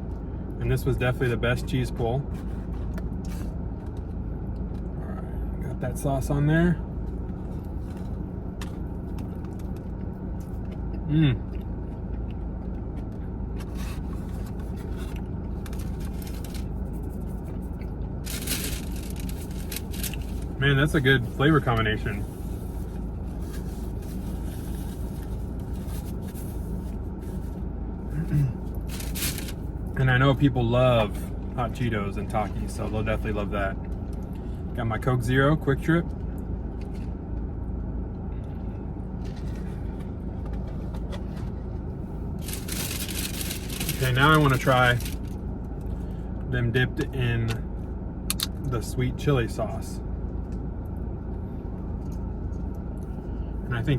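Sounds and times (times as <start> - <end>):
car engine rumble: 0.0 - 53.9
steady low hum: 0.0 - 53.9.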